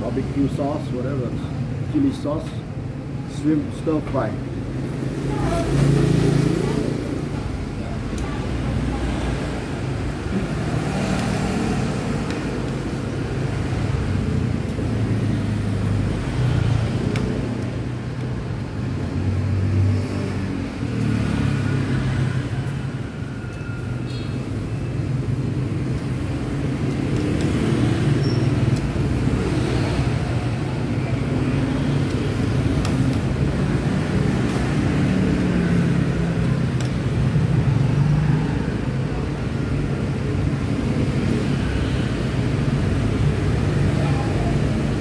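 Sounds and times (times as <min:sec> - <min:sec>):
motor scooters passing: 0:04.8 - 0:45.0.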